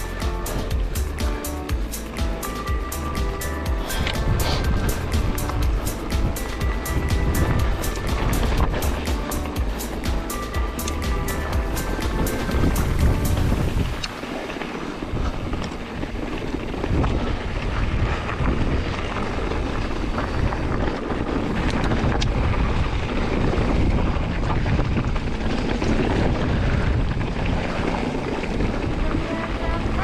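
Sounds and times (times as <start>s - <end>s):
bike rattles and clicks: 0.0s - 30.0s
bike tyre noise on dirt: 0.0s - 30.0s
wind buffeting microphone: 0.0s - 30.0s.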